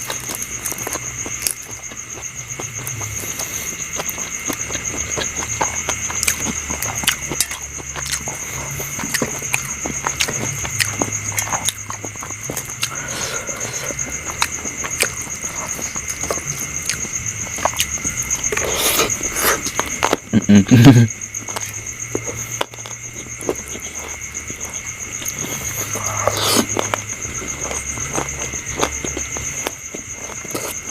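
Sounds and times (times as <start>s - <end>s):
chewing and crunching: 0.0s - 30.9s
high insect chirring: 0.0s - 30.9s.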